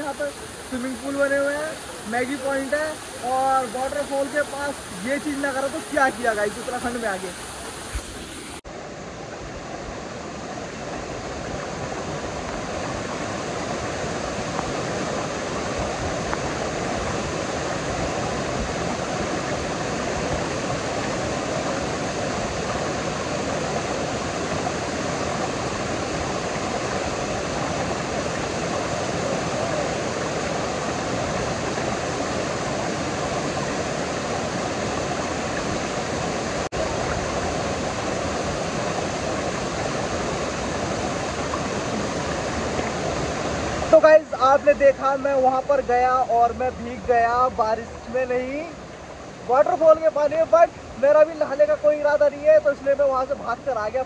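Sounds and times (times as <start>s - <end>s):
waterfall splashing onto boulders: 0.0s - 8.6s, 10.4s - 54.0s.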